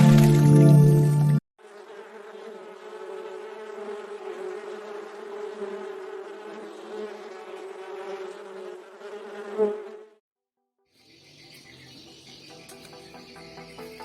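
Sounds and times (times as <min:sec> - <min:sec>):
insect buzzing: 0:01.6 - 0:10.2, 0:11.0 - 0:14.0.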